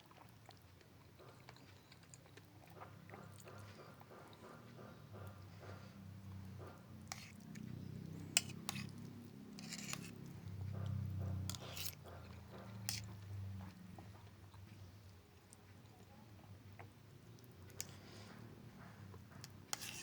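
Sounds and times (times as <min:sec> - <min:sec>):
close chewing with mouth smacks: 0:00.0 - 0:20.0.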